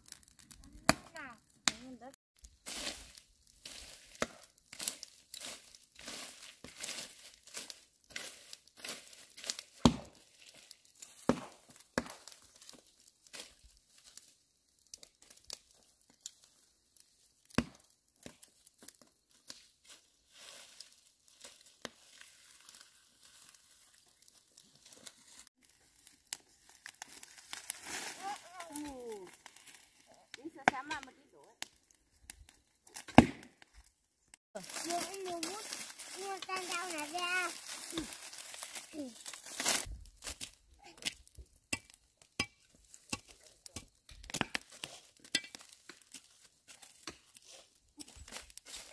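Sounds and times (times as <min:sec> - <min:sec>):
dry grass rustling and crackling: 0:00.0 - 0:48.9.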